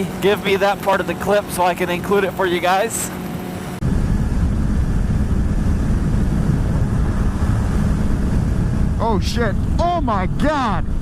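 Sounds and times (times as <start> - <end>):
motorcycle engine and road noise: 0.0 - 11.0
wind rushing over microphone: 0.0 - 11.0.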